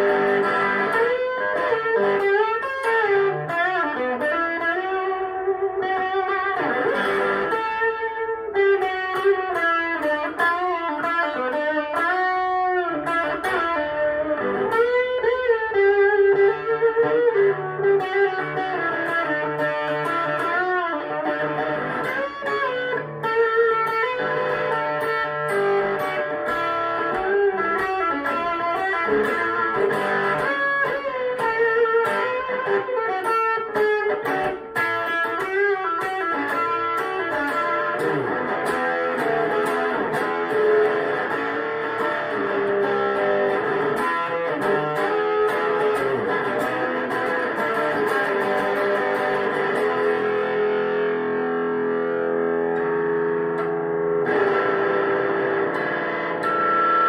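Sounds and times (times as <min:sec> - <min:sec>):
electric guitar melody: 0:00.0 - 0:57.0.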